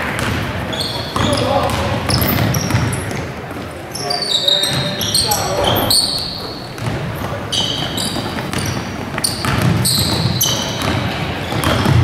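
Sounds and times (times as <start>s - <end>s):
basketball bouncing: 0.0s - 3.6s, 4.6s - 12.0s
sneakers squeaking on hardwood: 0.0s - 12.0s.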